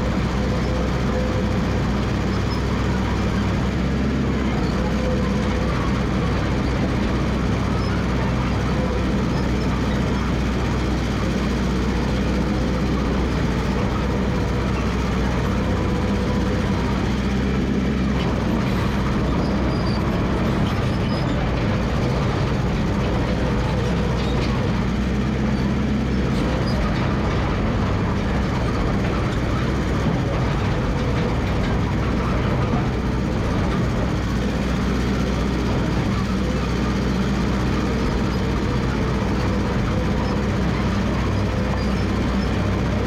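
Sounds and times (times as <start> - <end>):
dozer engine running: 0.0 - 43.0.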